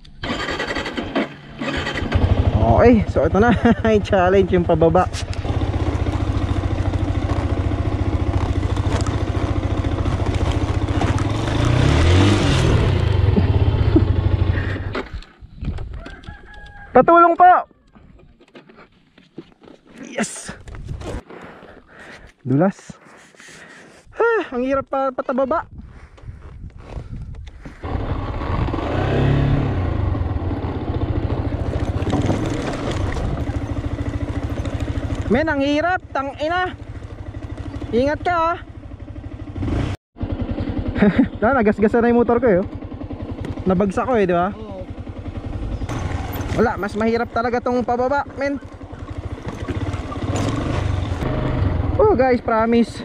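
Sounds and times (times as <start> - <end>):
motorcycle engine running: 0.2 - 17.8, 25.8 - 53.0.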